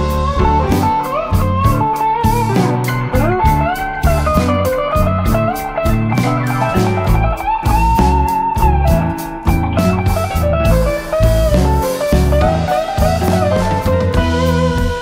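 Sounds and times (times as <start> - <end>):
bluesy electric guitar music: 0.0 - 15.0.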